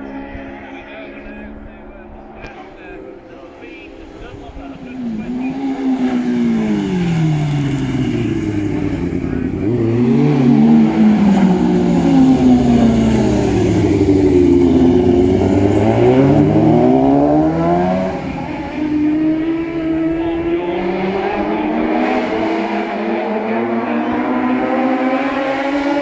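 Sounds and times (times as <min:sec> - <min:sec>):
racing motorcycles passing: 0:00.0 - 0:26.0.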